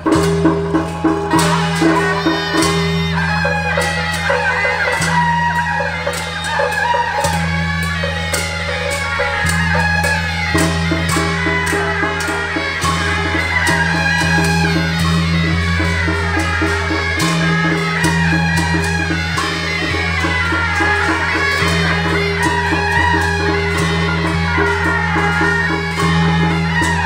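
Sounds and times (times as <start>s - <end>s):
procession music with percussion: 0.0s - 27.0s.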